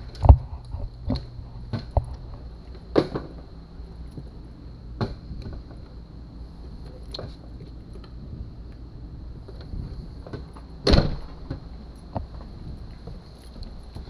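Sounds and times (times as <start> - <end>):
low hum: 0.0 - 14.0
steady high whine: 0.0 - 14.0.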